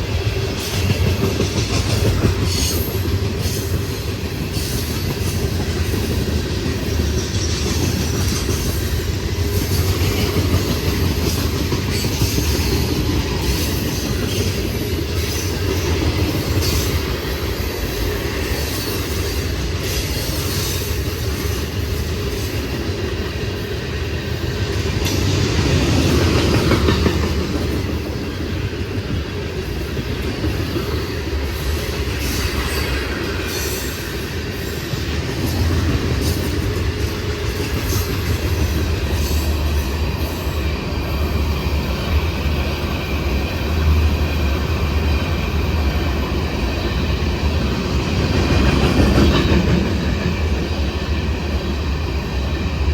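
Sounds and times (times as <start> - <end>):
train wheels clattering on track: 0.0 - 52.9.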